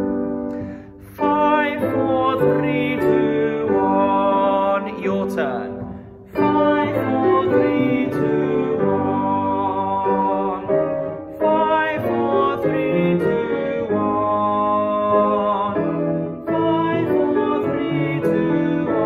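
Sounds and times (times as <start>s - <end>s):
piano accompaniment: 0.0s - 19.0s.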